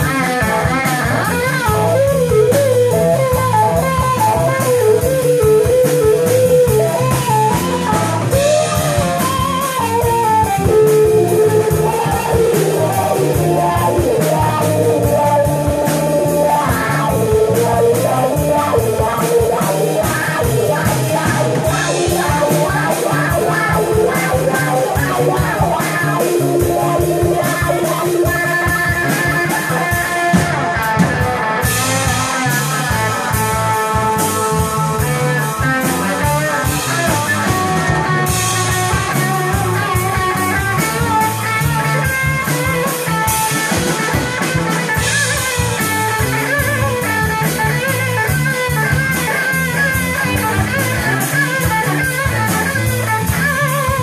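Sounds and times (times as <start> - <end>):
drum kit: 0.0 - 54.0
electric guitar lead: 0.0 - 54.0.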